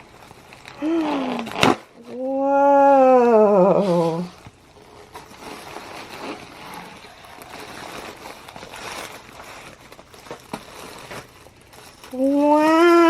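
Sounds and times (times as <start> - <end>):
package rustling: 0.0 - 2.3, 3.8 - 13.0.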